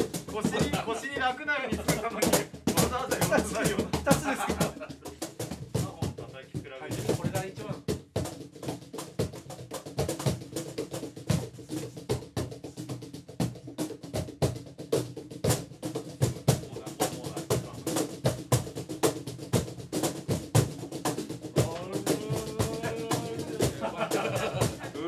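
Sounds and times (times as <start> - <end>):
drums and percussion groove: 0.0 - 25.0.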